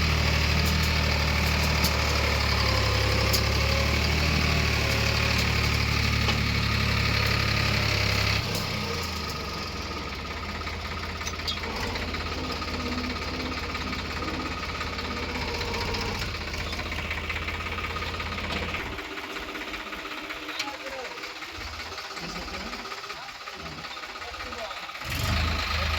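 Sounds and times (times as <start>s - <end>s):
heavy machinery diesel engine: 0.0s - 25.9s.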